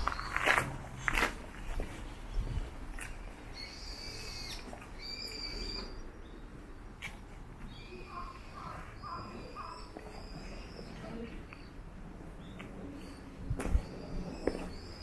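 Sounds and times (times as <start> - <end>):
birds calling: 0.0 - 0.7, 2.0 - 15.0.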